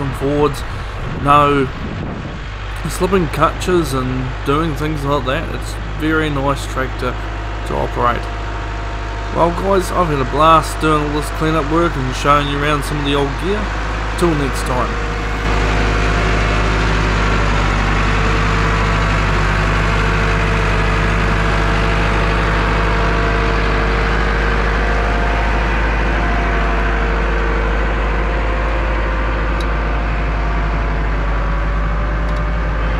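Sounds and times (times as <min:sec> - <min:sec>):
tractor diesel engine humming: 0:00.0 - 0:32.9.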